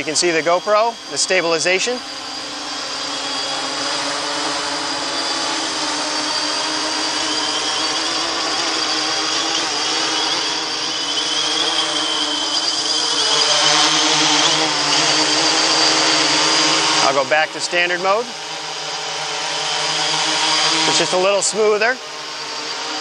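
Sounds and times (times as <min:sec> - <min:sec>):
drone motors whining in hover: 0:00.0 - 0:23.0.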